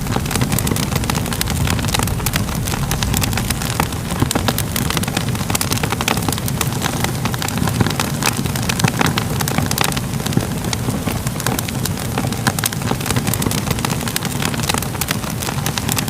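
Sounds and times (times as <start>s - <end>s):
fire crackling: 0.0s - 16.0s
low fire roar: 0.0s - 16.0s.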